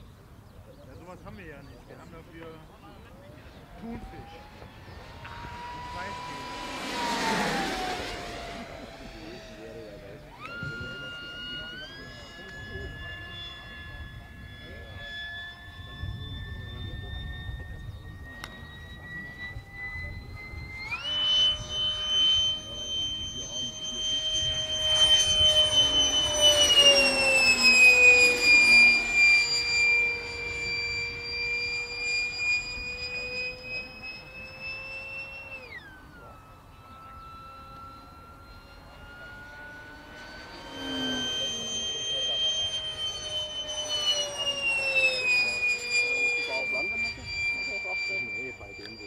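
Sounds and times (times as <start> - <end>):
model jet fan whining: 0.0 - 49.0.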